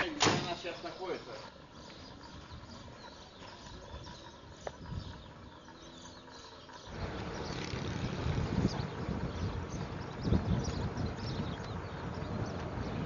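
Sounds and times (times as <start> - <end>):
bird chirp: 0.0 - 13.0
faint outdoor ambience: 0.0 - 13.0
wind buffeting microphone: 2.1 - 13.0.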